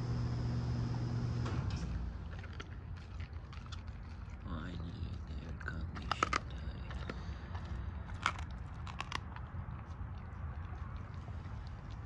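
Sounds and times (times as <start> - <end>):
dog chewing with wet crunching: 2.0 - 12.0.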